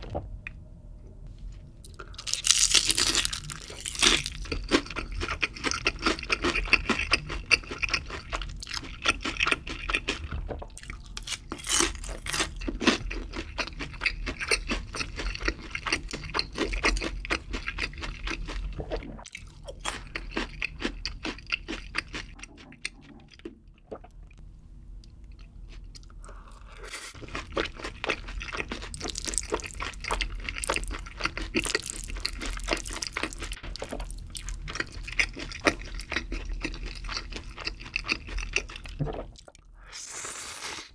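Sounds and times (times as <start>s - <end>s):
crunching and chewing fried chicken: 1.8s - 24.4s, 25.0s - 40.9s.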